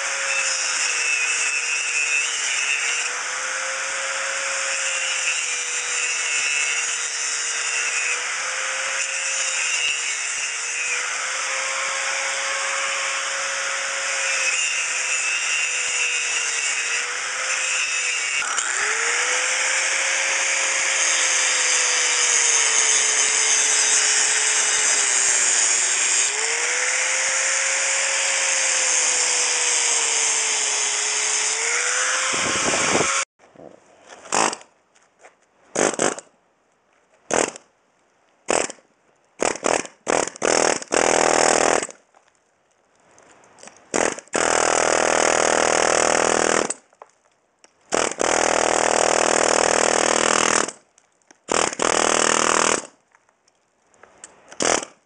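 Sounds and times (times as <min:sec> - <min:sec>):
pneumatic air hammer chipping plaster: 0:00.0 - 0:33.3, 0:34.3 - 0:34.7, 0:35.7 - 0:36.3, 0:37.3 - 0:37.6, 0:38.5 - 0:38.8, 0:39.4 - 0:42.0, 0:43.9 - 0:46.8, 0:47.9 - 0:50.8, 0:51.5 - 0:53.0, 0:54.6 - 0:55.0.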